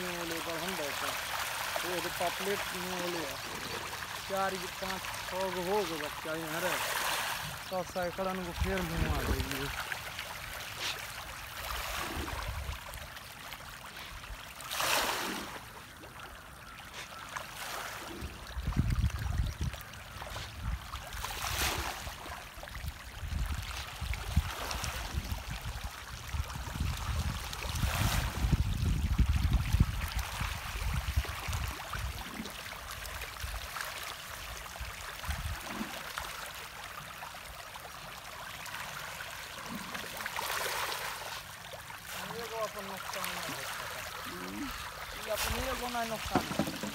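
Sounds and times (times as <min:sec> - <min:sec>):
fish splashing in pond: 0:00.0 - 0:46.9.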